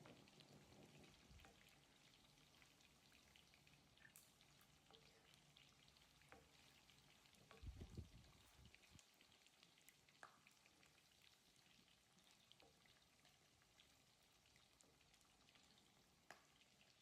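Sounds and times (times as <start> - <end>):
food frying in oil: 0.0 - 17.0.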